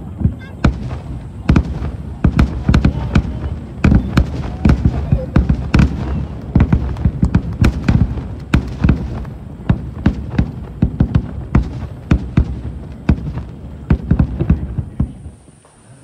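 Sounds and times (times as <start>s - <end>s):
fireworks booms and cracks: 0.0s - 15.8s
continuous low rumble: 0.0s - 16.0s.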